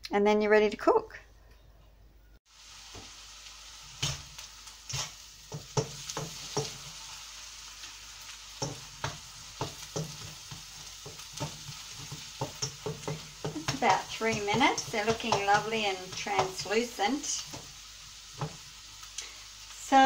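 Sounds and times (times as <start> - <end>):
onions sizzling in a frying pan: 2.5 - 20.0.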